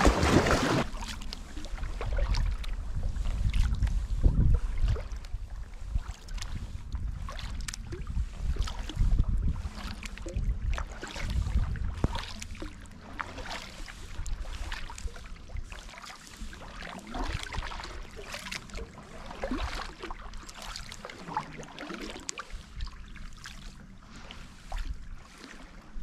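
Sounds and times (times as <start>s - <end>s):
wind on microphone: 0.0s - 21.6s
paddle strokes in water: 0.0s - 26.0s.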